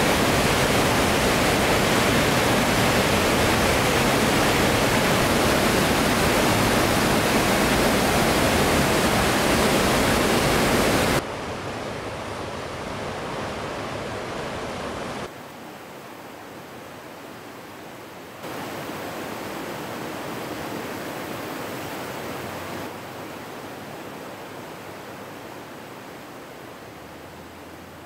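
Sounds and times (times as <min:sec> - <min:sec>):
river rapids rushing: 0:00.0 - 0:28.0.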